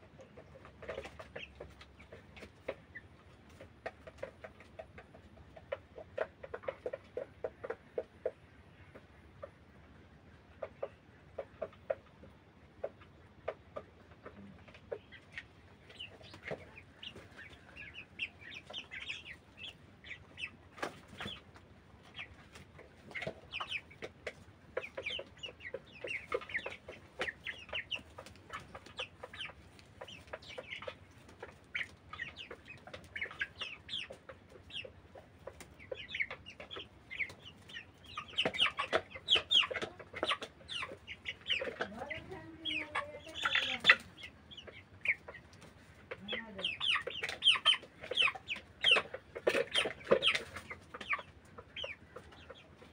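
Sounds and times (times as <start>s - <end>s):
chickens clucking and peeping: 0.0s - 52.9s.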